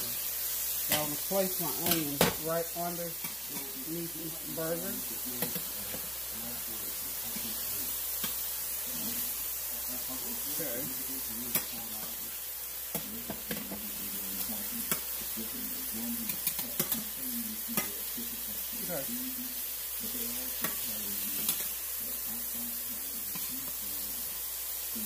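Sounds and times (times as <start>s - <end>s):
food sizzling in a skillet: 0.0s - 25.0s.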